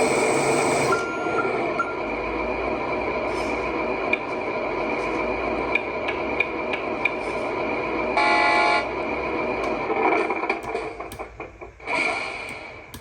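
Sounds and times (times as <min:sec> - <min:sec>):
simulated truck engine from speaker: 0:00.0 - 0:11.0.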